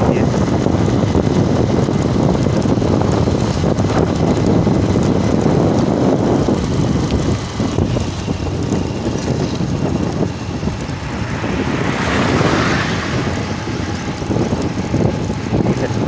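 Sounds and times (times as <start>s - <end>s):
motorbike engine drone: 0.0s - 16.0s
wind buffeting microphone: 0.0s - 16.0s.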